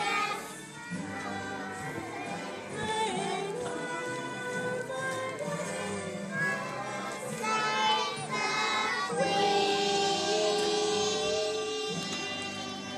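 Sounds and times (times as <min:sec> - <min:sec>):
young children singing: 0:00.0 - 0:12.9.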